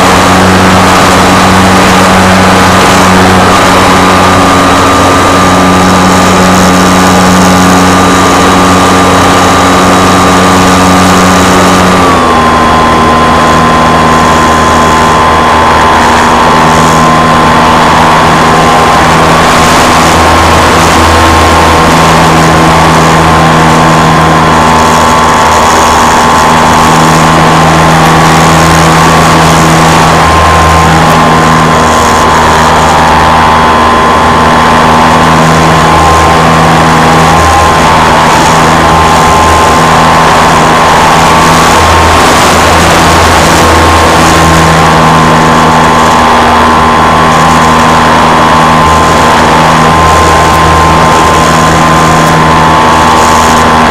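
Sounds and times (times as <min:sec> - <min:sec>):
model aircraft motor whine: 0:00.0 - 0:53.9.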